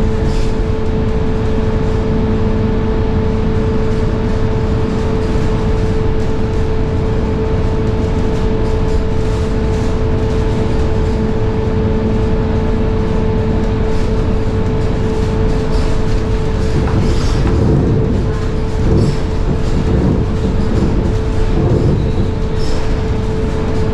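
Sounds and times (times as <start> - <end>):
bus engine and road rumble: 0.0 - 23.9
gearbox high-pitched whine: 0.0 - 23.9.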